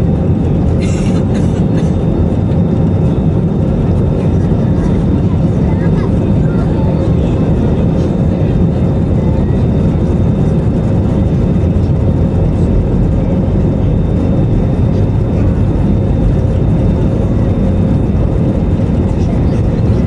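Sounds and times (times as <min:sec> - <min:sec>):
jet engines roaring in cabin: 0:00.0 - 0:20.0.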